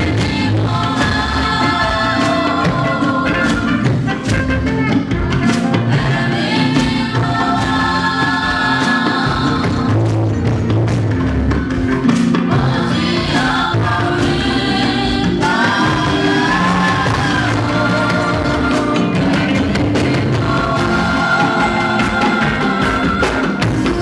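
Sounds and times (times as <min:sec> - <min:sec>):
choir singing gospel music: 0:00.0 - 0:24.0.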